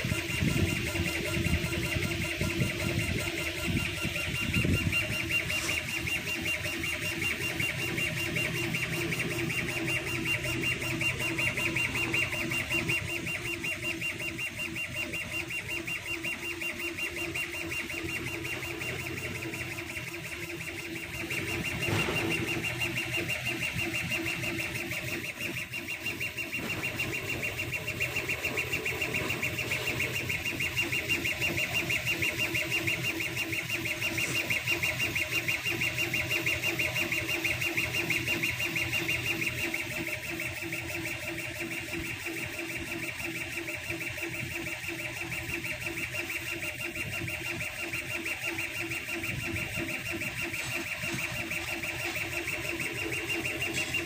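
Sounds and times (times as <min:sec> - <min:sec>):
laser cutter motors whirring: 0:00.0 - 0:54.0
machine hum: 0:00.0 - 0:54.0.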